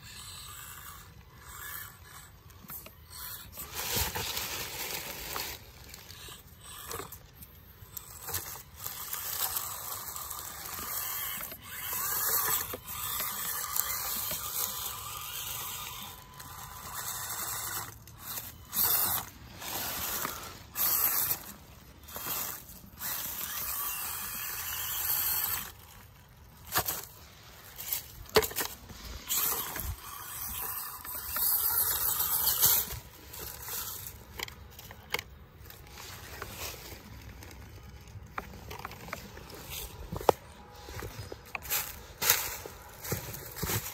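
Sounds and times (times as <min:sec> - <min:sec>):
small electric motor whirring: 0:00.0 - 0:43.9.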